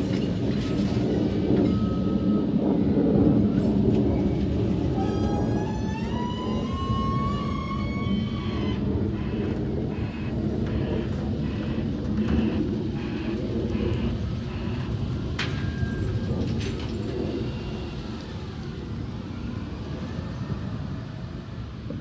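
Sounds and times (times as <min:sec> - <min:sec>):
hydraulics whining: 0:00.0 - 0:20.5
diesel engine rumbling: 0:00.0 - 0:22.0.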